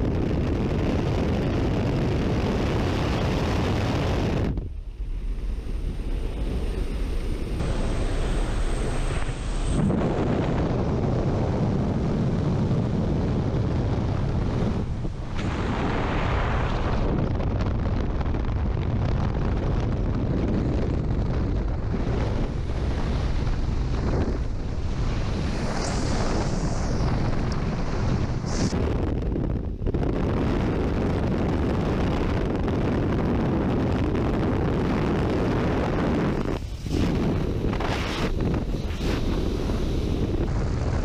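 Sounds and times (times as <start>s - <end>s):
wind rushing on microphone: 0.0s - 41.0s.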